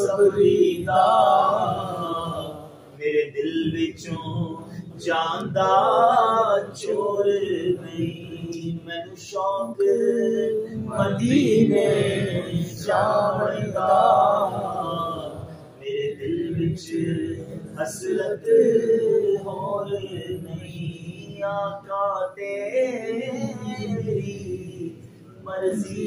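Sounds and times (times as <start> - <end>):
man singing unaccompanied: 0.0 - 26.0.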